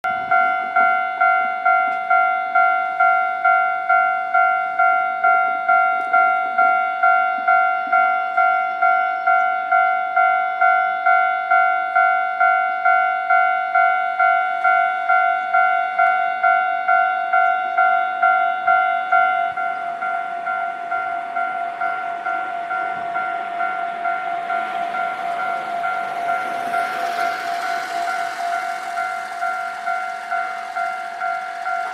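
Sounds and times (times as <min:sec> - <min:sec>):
level crossing warning bell: 0:00.1 - 0:31.9.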